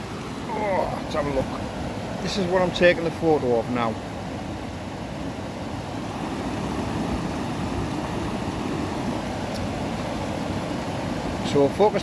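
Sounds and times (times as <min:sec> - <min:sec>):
river water rushing over rapids: 0:00.0 - 0:12.0.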